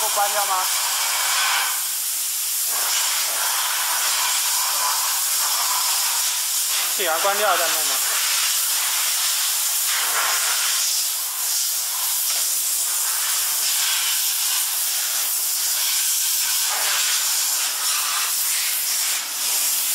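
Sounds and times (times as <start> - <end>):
steady loud hiss: 0.0 - 19.9.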